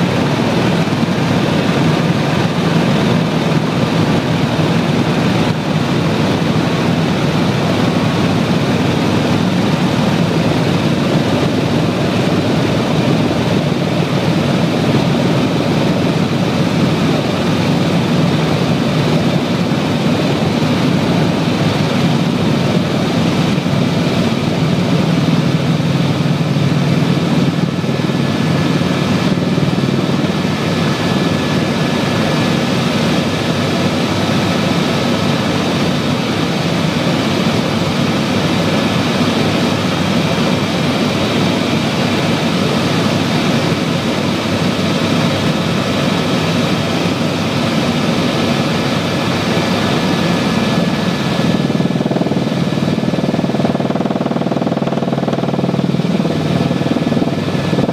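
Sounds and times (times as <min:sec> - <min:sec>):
helicopter rotor and engine drone: 0:00.0 - 0:57.9
thin steady whine: 0:00.0 - 0:57.9.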